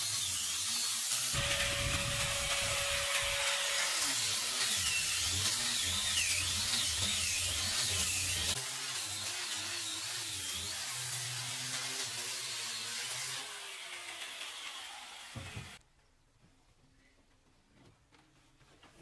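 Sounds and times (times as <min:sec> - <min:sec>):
angle grinder sanding wood: 0:00.0 - 0:15.8.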